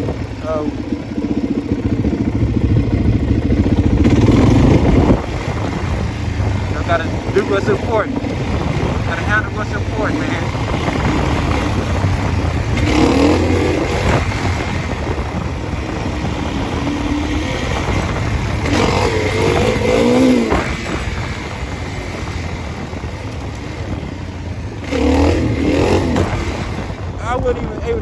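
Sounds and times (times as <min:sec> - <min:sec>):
dirt bike engine revving: 0:00.0 - 0:28.0
wind rushing on microphone: 0:00.0 - 0:28.0.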